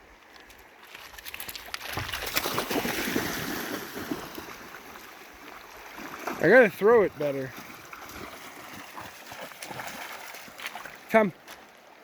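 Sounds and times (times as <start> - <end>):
dog splashing through water: 0.8 - 6.6, 7.5 - 11.7.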